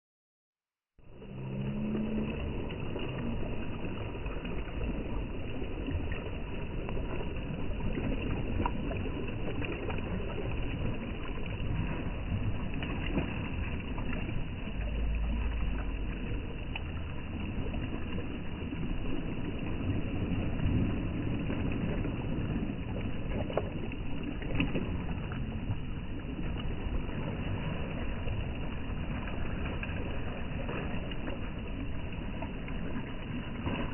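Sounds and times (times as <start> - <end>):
wind rumbling on microphone: 1.0 - 33.9.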